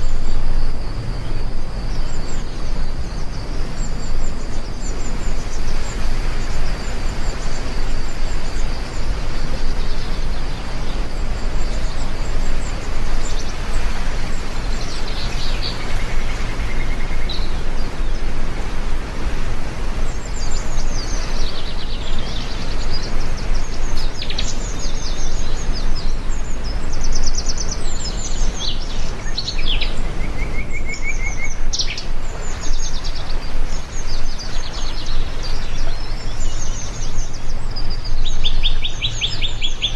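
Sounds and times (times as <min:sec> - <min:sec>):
heavy rain: 0:00.0 - 0:39.9
small birds chirping: 0:00.0 - 0:39.9.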